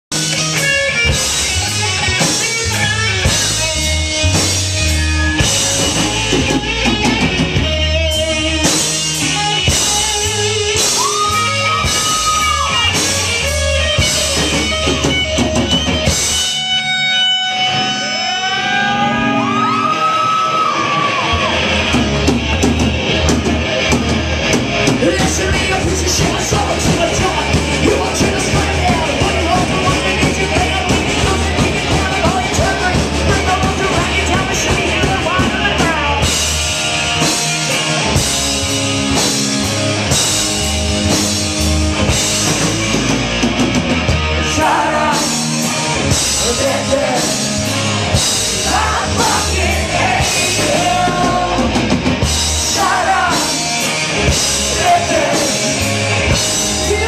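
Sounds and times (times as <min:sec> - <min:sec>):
punk metal band playing live: 0:00.1 - 0:57.0.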